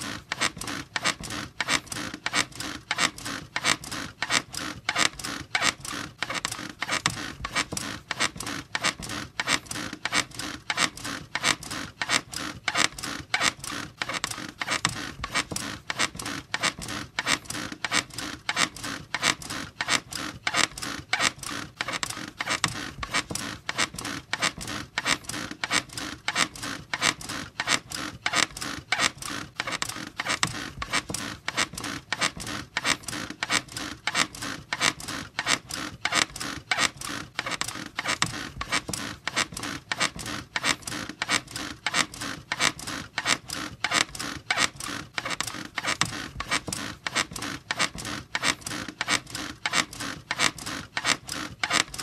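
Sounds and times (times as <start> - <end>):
bed squeaking rhythmically: 0.0 - 52.0.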